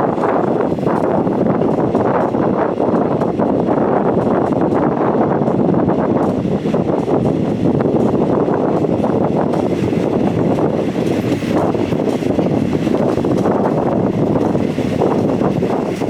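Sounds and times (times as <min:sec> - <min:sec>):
train running noise: 0:00.0 - 0:16.0
wind buffeting microphone: 0:00.0 - 0:16.0.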